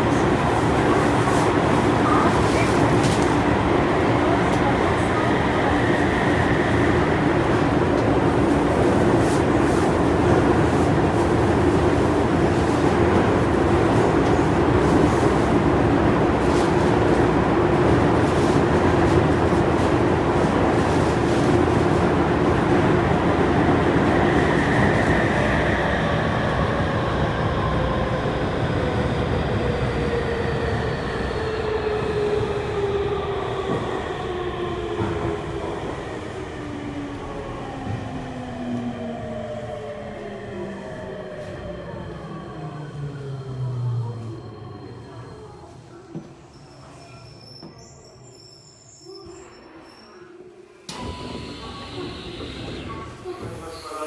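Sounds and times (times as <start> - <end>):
train running noise: 0.0 - 45.0, 50.9 - 54.0.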